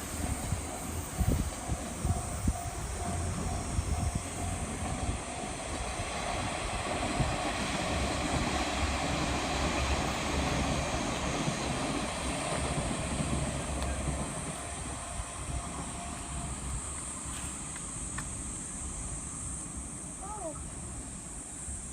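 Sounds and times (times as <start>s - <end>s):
crossing warning bell clanging: 0.0s - 17.8s
train wheels rumbling on rail: 0.0s - 21.9s.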